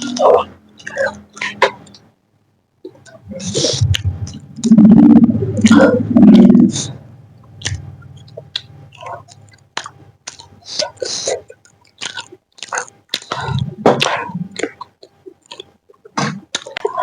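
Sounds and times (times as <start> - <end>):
person chewing food: 0.0 - 2.1, 2.8 - 17.0.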